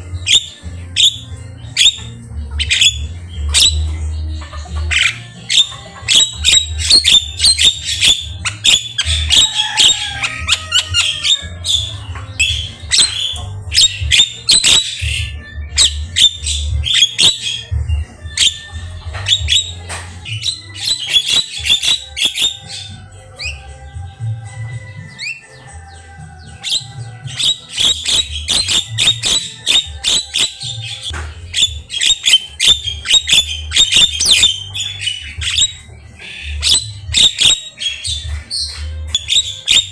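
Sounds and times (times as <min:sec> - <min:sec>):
bird chattering and whistling: 0:00.0 - 0:39.9.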